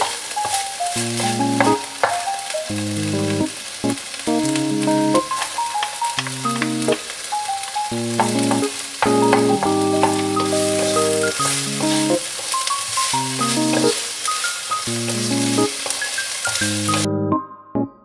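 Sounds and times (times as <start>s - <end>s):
food sizzling in frying pan: 0.0s - 17.1s
background music simple melody: 0.0s - 18.0s.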